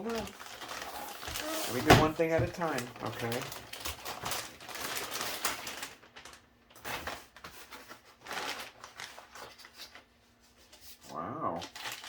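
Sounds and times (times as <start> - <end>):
cardboard packaging rustling: 0.0 - 12.0.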